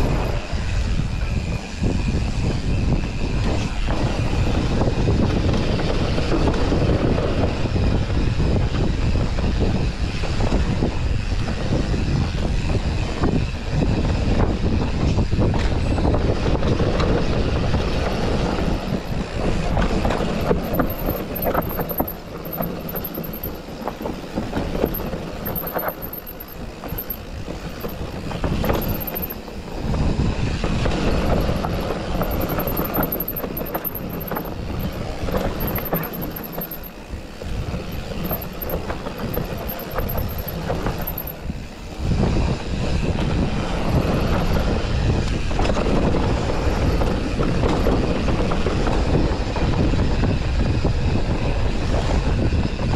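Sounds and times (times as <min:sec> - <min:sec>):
bike frame rattling: 0:00.0 - 0:06.5, 0:08.4 - 0:49.2
bike tyres rumbling on dirt: 0:00.0 - 0:52.9
wind on microphone: 0:00.0 - 0:52.9.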